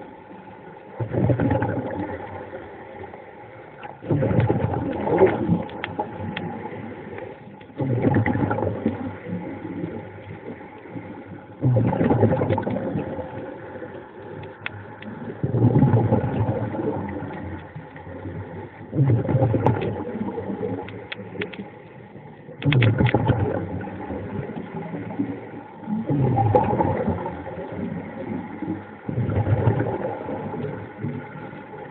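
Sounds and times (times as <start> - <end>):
underwater breath bubbles: 1.0 - 3.0, 3.8 - 21.5, 22.2 - 31.9.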